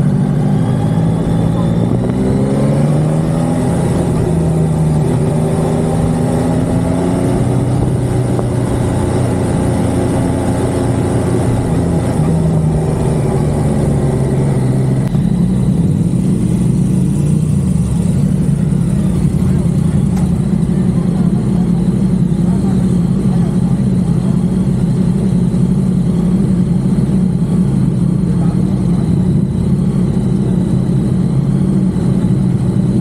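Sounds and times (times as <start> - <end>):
motorcycle engine: 0.0 - 33.0.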